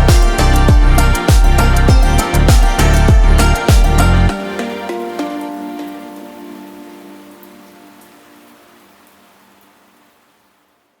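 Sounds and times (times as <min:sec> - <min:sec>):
rain-like hiss: 0:00.0 - 0:11.0.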